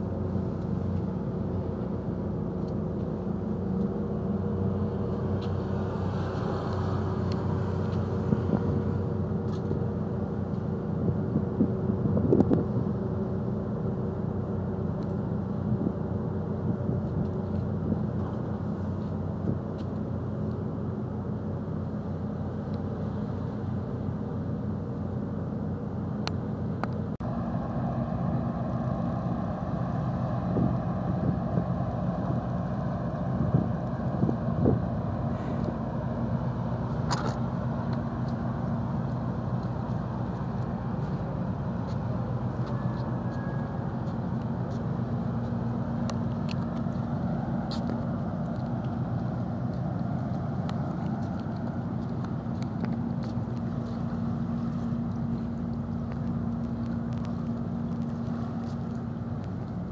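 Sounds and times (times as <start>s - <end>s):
large engine idling: 0.0s - 59.9s.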